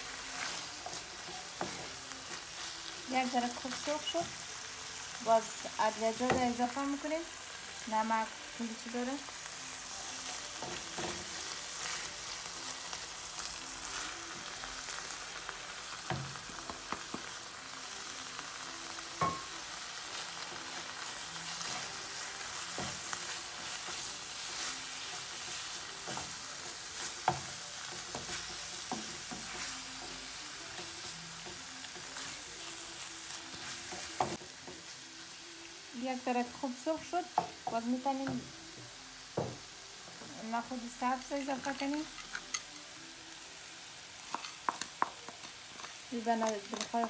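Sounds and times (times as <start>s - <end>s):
meat sizzling in a frying pan: 0.0s - 47.0s.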